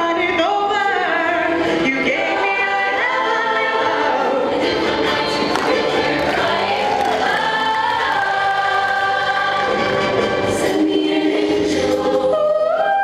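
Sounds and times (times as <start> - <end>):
choir singing in parts: 0.8 - 13.0.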